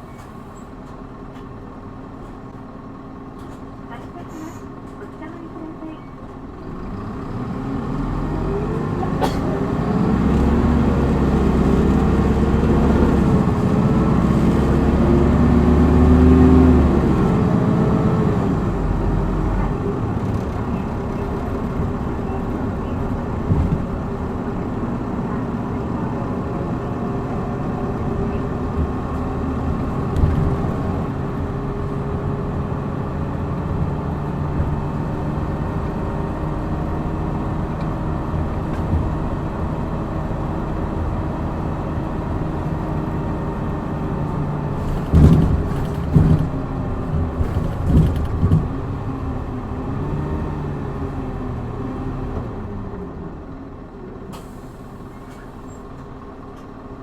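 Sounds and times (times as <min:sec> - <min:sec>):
bus diesel engine accelerating: 0:00.0 - 0:57.0
road noise: 0:00.0 - 0:57.0.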